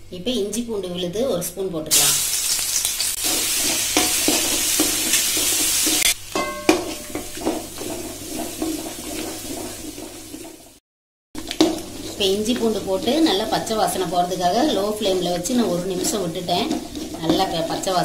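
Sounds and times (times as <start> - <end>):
paste sizzling in hot oil: 1.9 - 6.2, 6.9 - 10.8, 11.4 - 18.0
spatula scraping a pan: 2.7 - 10.8, 11.4 - 18.0.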